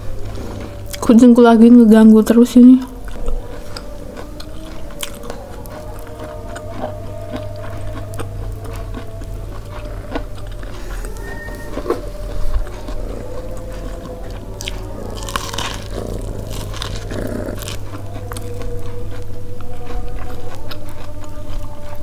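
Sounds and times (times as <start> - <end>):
biting and chewing corn: 0.0 - 1.4, 2.3 - 22.0
steady low hum: 0.0 - 22.0.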